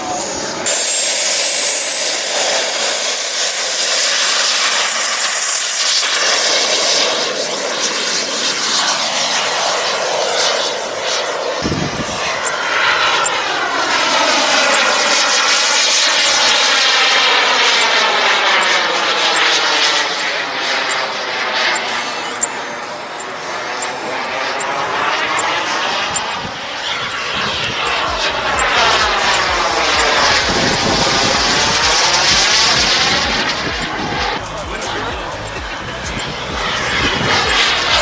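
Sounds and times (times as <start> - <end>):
model jet turbine whine: 0.0 - 38.0.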